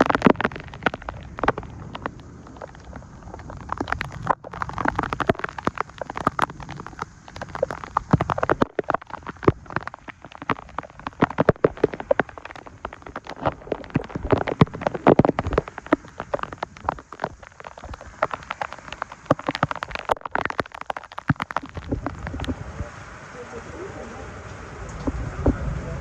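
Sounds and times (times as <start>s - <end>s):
heavy rain patter: 0.0s - 26.0s.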